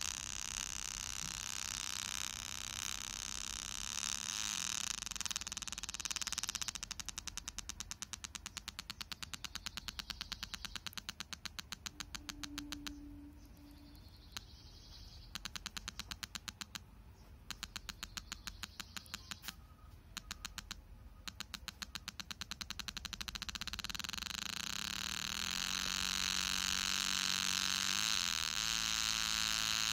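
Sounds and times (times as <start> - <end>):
steady electronic buzz: 0.0 - 16.8, 20.1 - 29.9.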